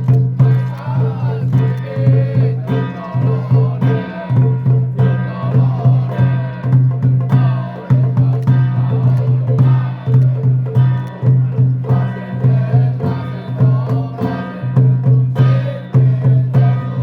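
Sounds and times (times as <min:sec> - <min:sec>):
clacking percussion: 0:00.0 - 0:17.0
fast drum beat: 0:00.0 - 0:17.0.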